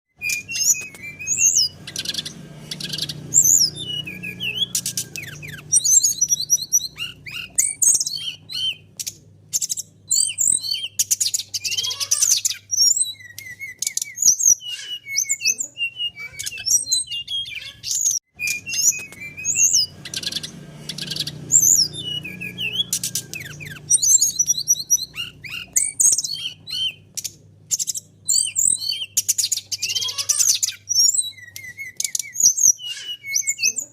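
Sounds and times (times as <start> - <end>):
bird singing chirps and trills: 0.2 - 33.9.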